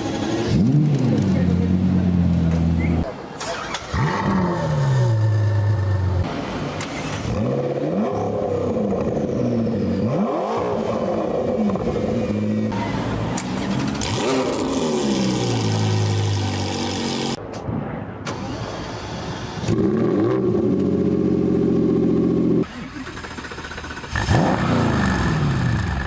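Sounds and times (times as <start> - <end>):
car engine idling and revving: 0.0 - 17.4, 18.4 - 26.0.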